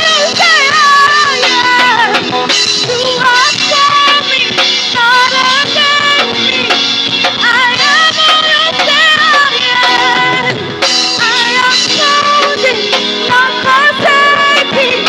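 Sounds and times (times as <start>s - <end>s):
drum kit steady beat: 0.0s - 15.0s
worship band playing: 0.0s - 15.0s.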